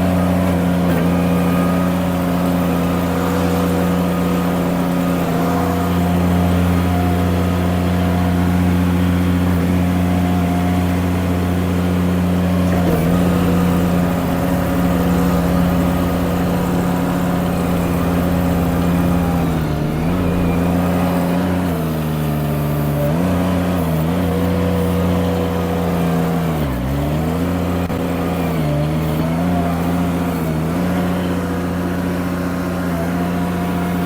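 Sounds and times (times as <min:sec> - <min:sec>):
skid steer engine running: 0:00.0 - 0:34.0.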